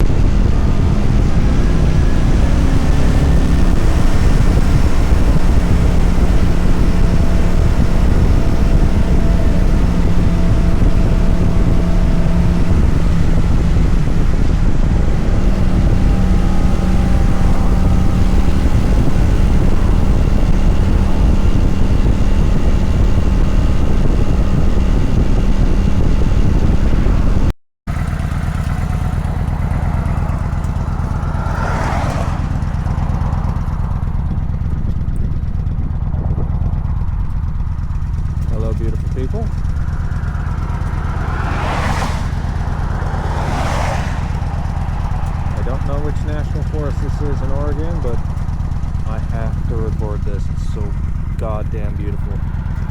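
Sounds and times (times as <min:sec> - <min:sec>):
motorcycle engine cruising: 0:00.0 - 0:52.9
riding wind noise: 0:00.0 - 0:52.9.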